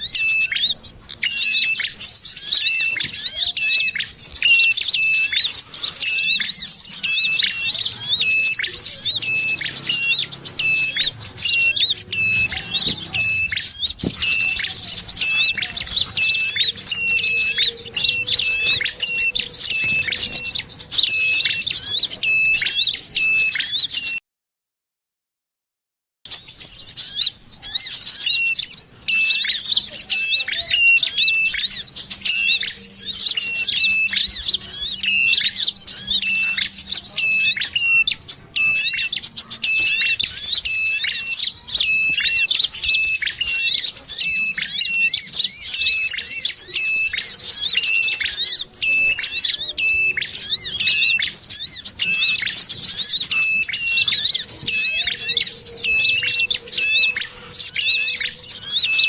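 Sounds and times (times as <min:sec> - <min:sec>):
high chattering of small birds: 0:00.0 - 0:24.2, 0:26.3 - 0:59.0
sunbird calls: 0:00.0 - 0:24.2, 0:26.3 - 0:59.0
tailorbird calls: 0:00.0 - 0:24.2, 0:26.3 - 0:59.0.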